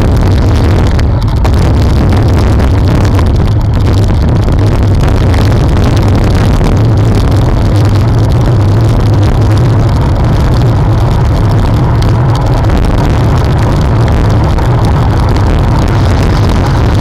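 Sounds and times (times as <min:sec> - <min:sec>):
road noise: 0:00.0 - 0:17.0
wind rush on microphone: 0:00.0 - 0:17.0.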